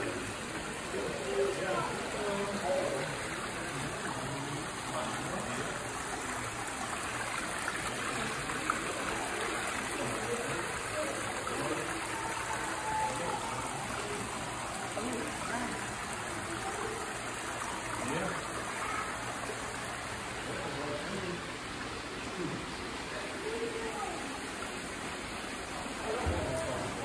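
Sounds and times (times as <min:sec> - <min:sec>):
water trickling over stones: 0:00.0 - 0:22.8.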